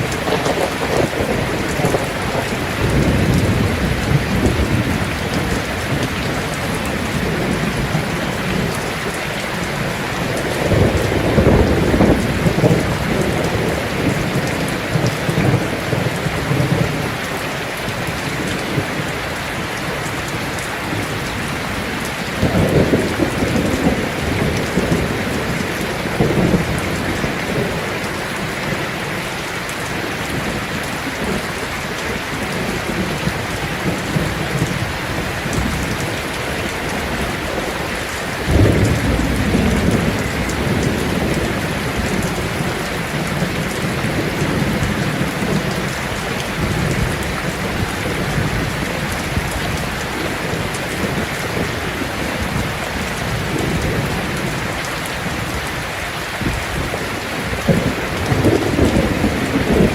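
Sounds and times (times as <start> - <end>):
thunder rumbling: 0.0 - 19.1, 19.8 - 59.9
heavy rain on a tin roof: 0.0 - 59.9.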